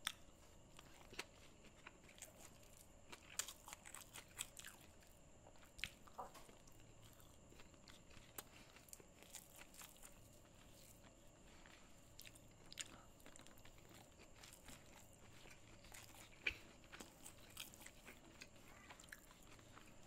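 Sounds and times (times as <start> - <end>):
person chewing food: 0.0 - 20.0
small crunches and mouth clicks: 0.0 - 20.0.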